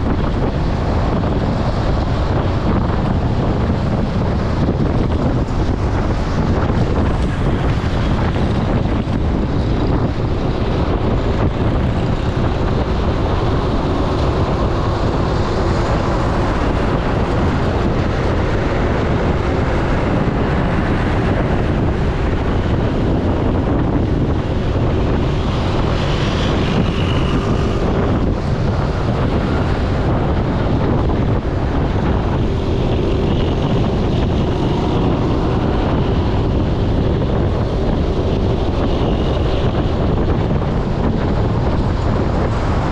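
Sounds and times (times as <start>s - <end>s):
low vehicle rumble: 0.0s - 42.9s
wind buffeting microphone: 0.0s - 42.9s.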